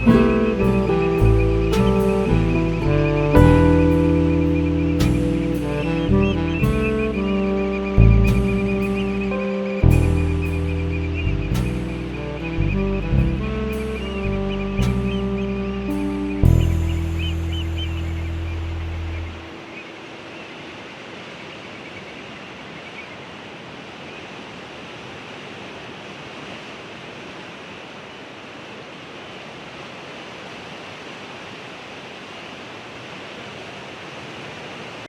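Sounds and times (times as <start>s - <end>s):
ocean waves rushing: 0.0s - 35.0s.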